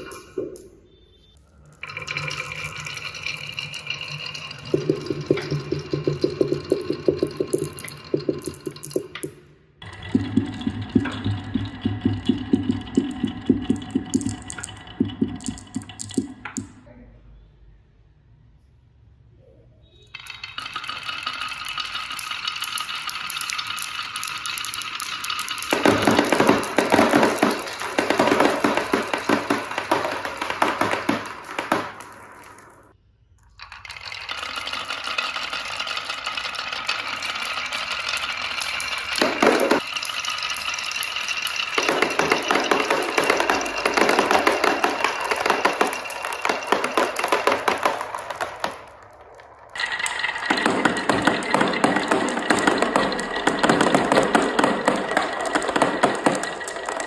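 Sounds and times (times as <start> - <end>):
marbles rolling down track: 0.0 - 0.7, 1.5 - 16.8, 20.1 - 57.0.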